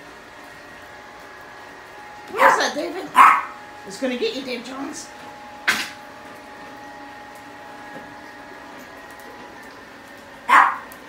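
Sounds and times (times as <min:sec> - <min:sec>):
robotic vacuum whirring: 0:00.0 - 0:11.0.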